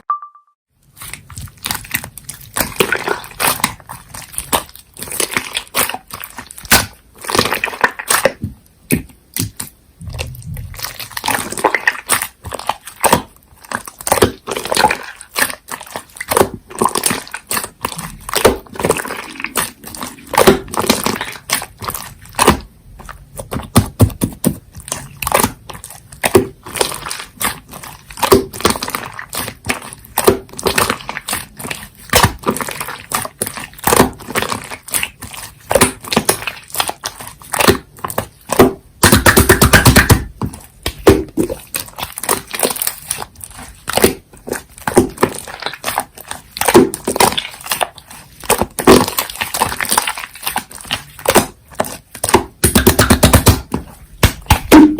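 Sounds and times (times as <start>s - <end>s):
hands squishing slime: 0.8s - 54.9s.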